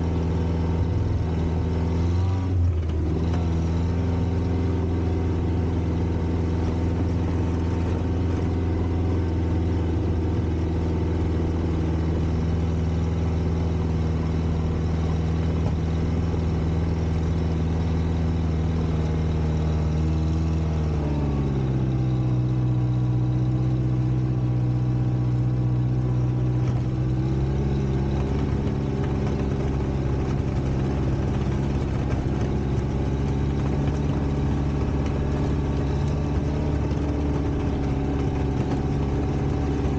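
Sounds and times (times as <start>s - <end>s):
petrol engine running: 0.0s - 39.9s.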